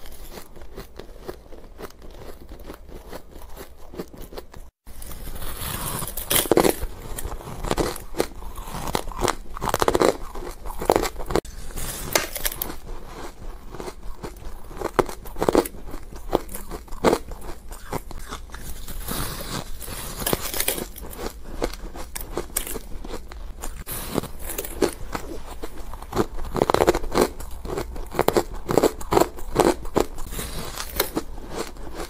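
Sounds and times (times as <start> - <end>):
person crunching ice: 0.0 - 32.0.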